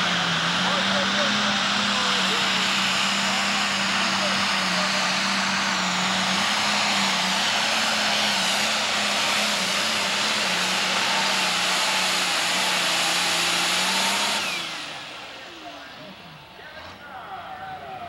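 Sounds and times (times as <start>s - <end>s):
tractor engine at full power: 0.0s - 18.0s.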